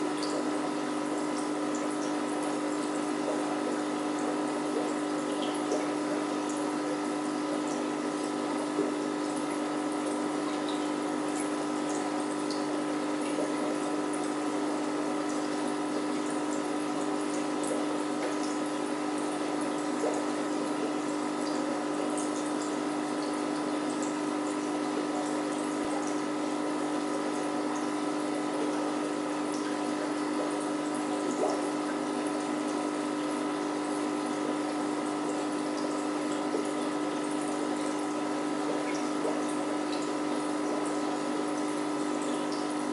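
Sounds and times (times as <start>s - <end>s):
aquarium filter humming: 0.0s - 42.9s
bubbling water: 0.0s - 42.9s.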